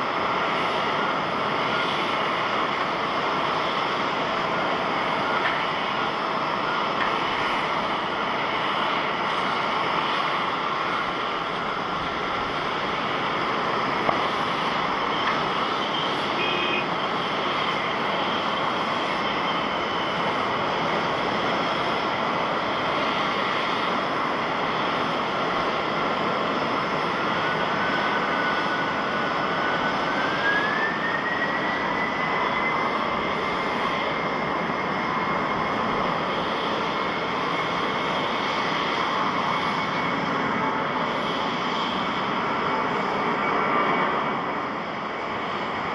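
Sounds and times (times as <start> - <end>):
jet engines rushing and whining: 0.0 - 45.9.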